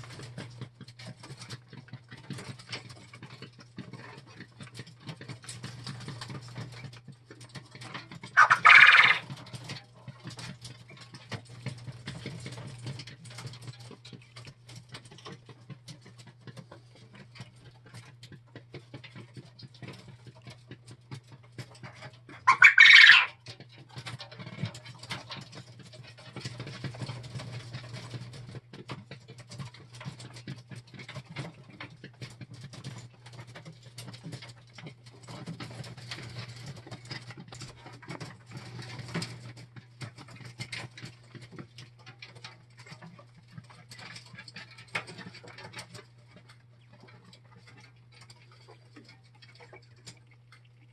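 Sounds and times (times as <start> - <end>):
quail tapping and scratching on mesh: 0.0 - 50.9.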